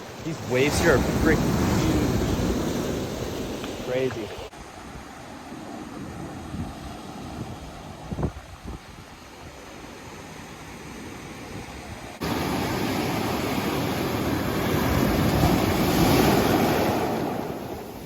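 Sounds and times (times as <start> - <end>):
ocean waves breaking on shore: 0.0 - 18.0.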